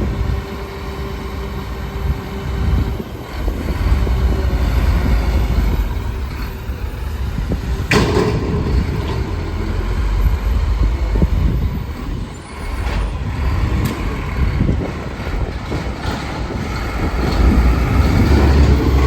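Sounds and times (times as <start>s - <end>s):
garbage truck engine rumbling: 0.0s - 19.0s.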